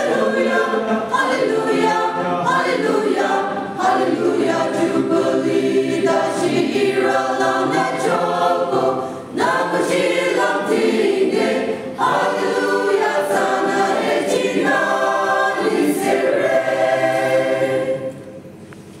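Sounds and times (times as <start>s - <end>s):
choir singing held chords: 0.0s - 18.6s.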